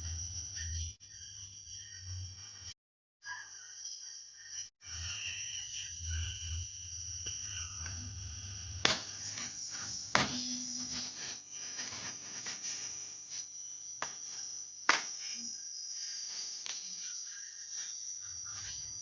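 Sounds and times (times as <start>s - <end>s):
crickets chirping: 0.0s - 2.7s, 3.5s - 19.0s.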